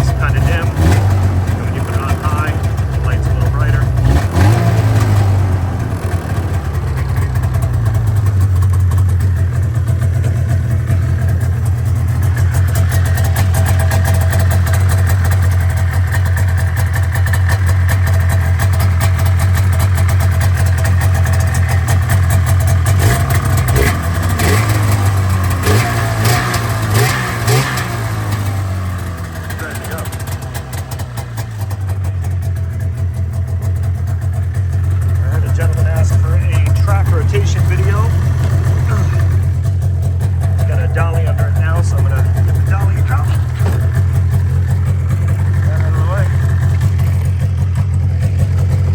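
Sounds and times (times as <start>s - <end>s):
snowmobile engine idling: 0.0s - 48.9s.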